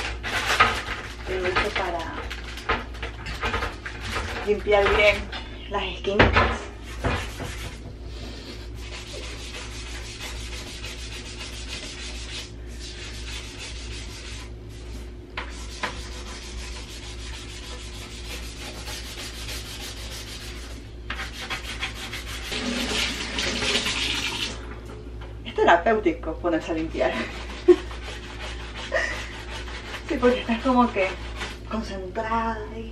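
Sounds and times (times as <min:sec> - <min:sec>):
scrub brush scouring countertop: 0:00.0 - 0:02.8, 0:03.4 - 0:05.3, 0:06.8 - 0:24.4, 0:27.0 - 0:32.0.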